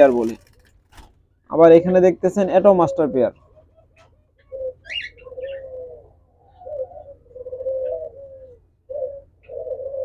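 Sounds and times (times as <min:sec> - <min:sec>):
doves cooing: 0:01.7 - 0:10.0.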